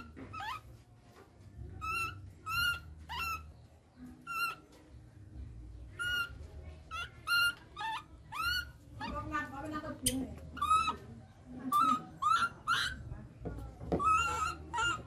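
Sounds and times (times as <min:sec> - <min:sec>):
baby monkey high-pitched calls: 0:00.0 - 0:00.8, 0:01.7 - 0:04.8, 0:05.9 - 0:13.3, 0:14.0 - 0:15.0.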